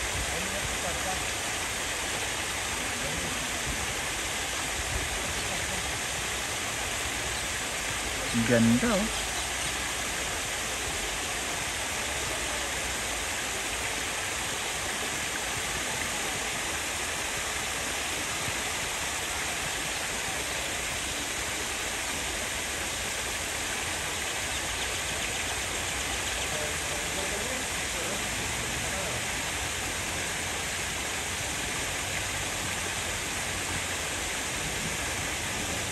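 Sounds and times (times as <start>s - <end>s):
rushing flowing water: 0.0s - 35.9s.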